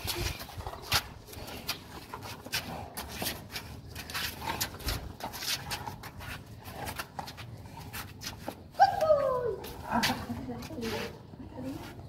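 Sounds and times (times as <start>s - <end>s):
scuffs and rustles on paving: 0.0s - 12.0s.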